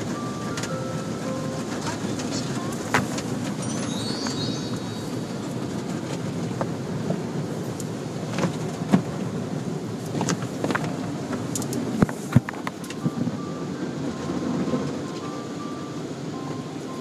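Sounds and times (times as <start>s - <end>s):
car wash machinery rumbling: 0.0s - 17.0s.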